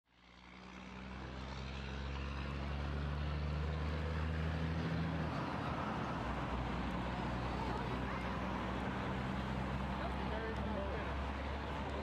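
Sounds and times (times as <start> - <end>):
road traffic passing: 0.1 - 12.0
truck engine drone: 0.1 - 12.0.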